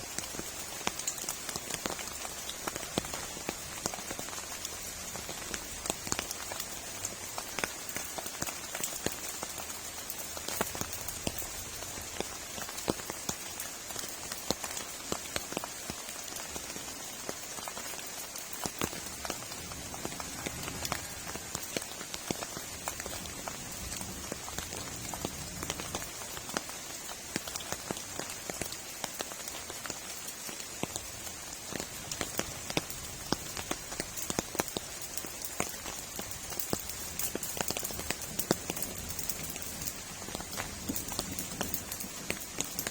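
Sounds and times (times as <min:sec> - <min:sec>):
heavy rain falling: 0:00.0 - 0:42.9
raindrops ticking on a surface: 0:00.0 - 0:42.9.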